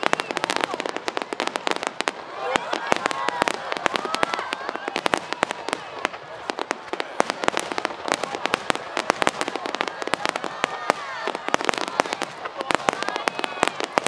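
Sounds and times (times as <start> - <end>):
fireworks cracks and pops: 0.0 - 14.0.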